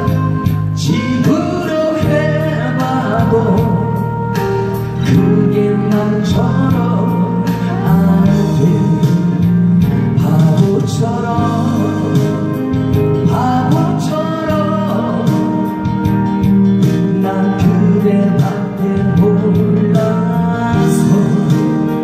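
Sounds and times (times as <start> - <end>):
backing music with steady beat: 0.0 - 22.0
man singing a slow ballad: 0.0 - 22.0.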